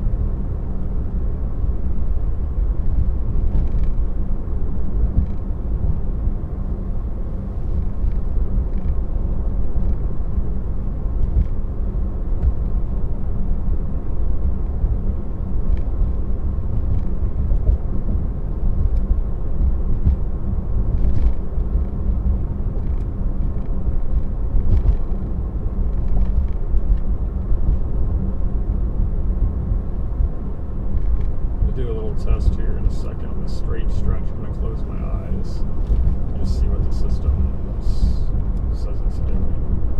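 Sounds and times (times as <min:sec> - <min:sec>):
tyre and road noise in car: 0:00.0 - 0:39.9.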